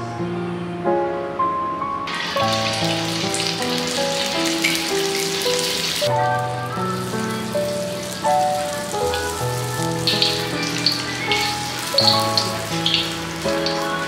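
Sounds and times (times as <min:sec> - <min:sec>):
background music: 0:00.0 - 0:14.0
food deep-frying in oil: 0:02.1 - 0:14.0.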